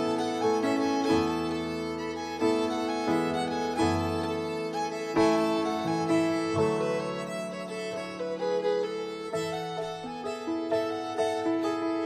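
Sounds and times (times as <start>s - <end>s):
violin instrumental music: 0.0s - 12.0s.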